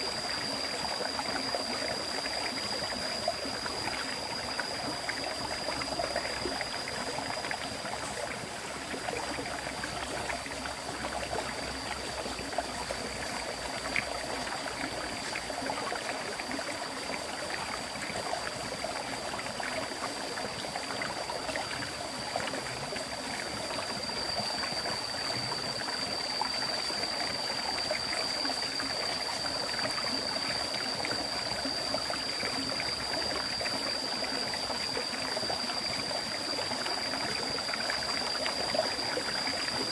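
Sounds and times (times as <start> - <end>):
steady high-pitched tone: 0.0 - 39.9.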